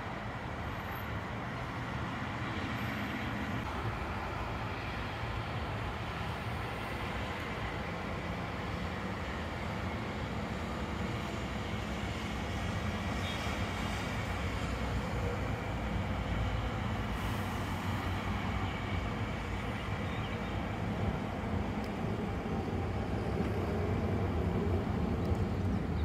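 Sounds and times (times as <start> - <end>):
tram rumbling on rails: 3.0 - 26.0.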